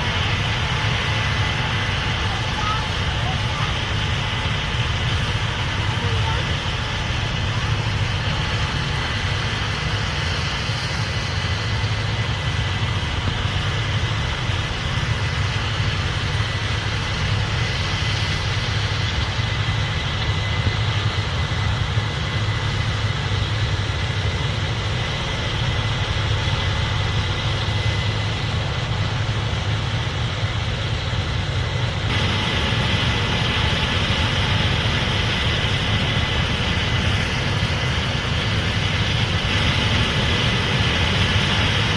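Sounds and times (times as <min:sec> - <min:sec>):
combine harvester droning: 0:00.0 - 0:41.9
faint steady whine: 0:00.0 - 0:41.9.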